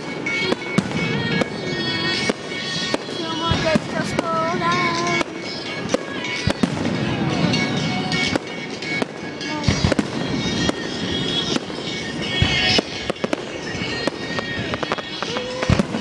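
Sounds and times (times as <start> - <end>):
firework bangs: 0.0 - 16.0
music playing: 0.0 - 16.0.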